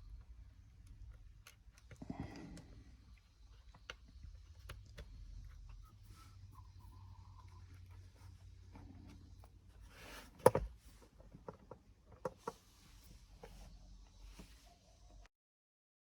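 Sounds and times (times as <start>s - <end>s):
faint low hum: 0.0s - 15.3s.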